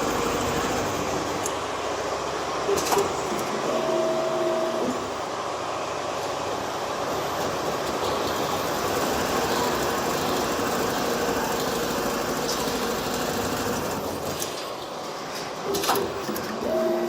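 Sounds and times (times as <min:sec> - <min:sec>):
perforation machine running: 0:00.0 - 0:17.0.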